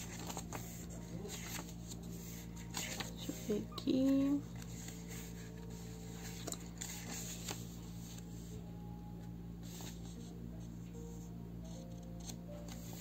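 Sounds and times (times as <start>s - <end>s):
paperback pages rustling: 0.0s - 8.6s, 9.6s - 10.3s, 11.7s - 13.0s
faint steady hum: 0.0s - 13.0s.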